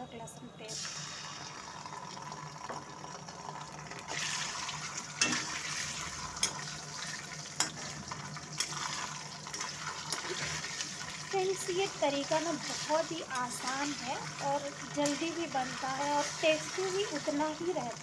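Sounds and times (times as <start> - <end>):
paste sizzling in hot oil: 0.7 - 18.0.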